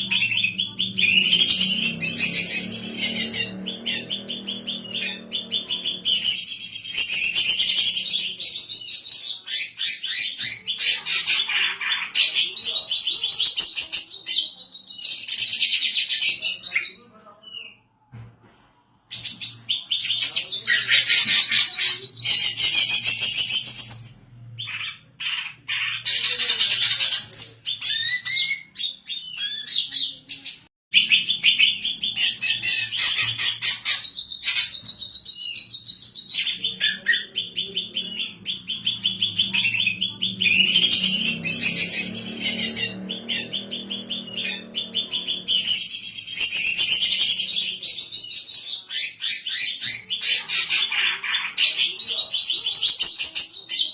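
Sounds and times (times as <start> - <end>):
bird chattering and warbling: 0.0 - 17.8, 19.1 - 53.9.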